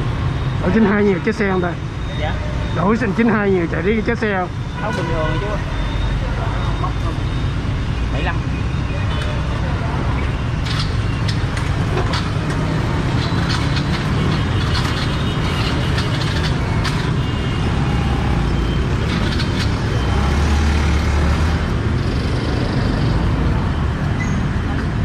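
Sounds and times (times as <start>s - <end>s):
motorbike engines and traffic: 0.0s - 25.0s.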